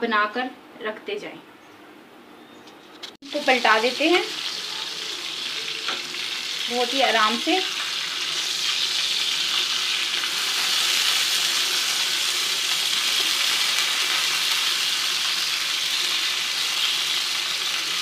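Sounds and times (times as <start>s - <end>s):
kebabs sizzling as they fry: 3.2s - 18.0s.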